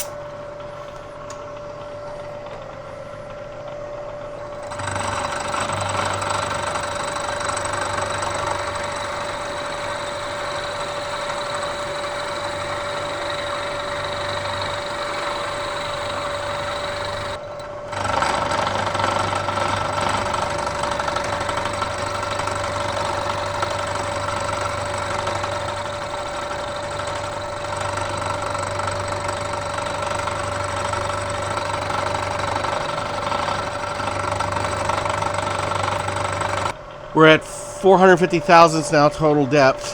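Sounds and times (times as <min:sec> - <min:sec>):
milling machine cutting metal: 0:04.4 - 0:36.8, 0:37.8 - 0:39.9.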